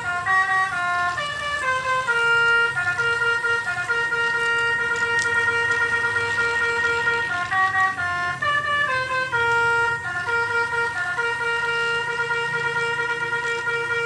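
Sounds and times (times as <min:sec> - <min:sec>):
multi-tone horn playing a tune: 0:00.0 - 0:14.0.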